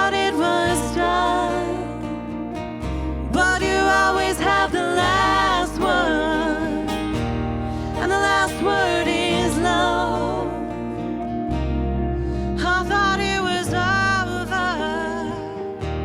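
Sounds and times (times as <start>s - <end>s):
people singing: 0.0s - 12.0s, 12.6s - 15.9s
bass notes: 0.0s - 16.0s
guitars: 0.0s - 16.0s.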